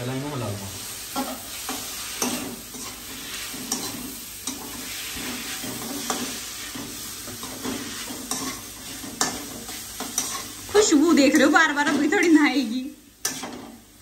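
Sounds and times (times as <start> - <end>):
vegetables sizzling in a wok: 0.0 - 14.0
metal spoon scraping a pan: 1.2 - 12.6, 13.2 - 13.8.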